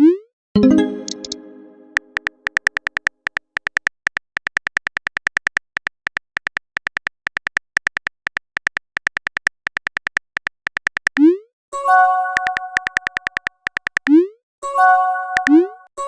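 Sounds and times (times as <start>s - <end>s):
keyboard typing clicks: 0.6s - 11.2s, 12.2s - 14.2s, 15.4s - 15.8s.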